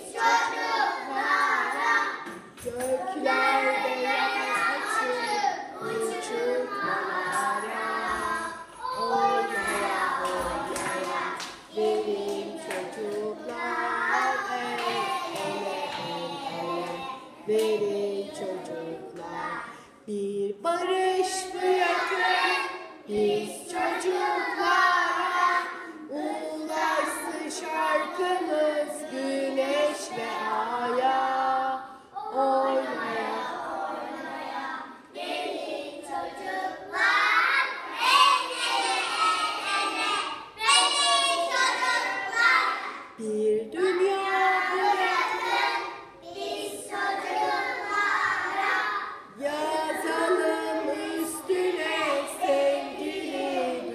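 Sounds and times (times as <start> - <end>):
children singing: 0.0 - 20.1, 20.8 - 53.9.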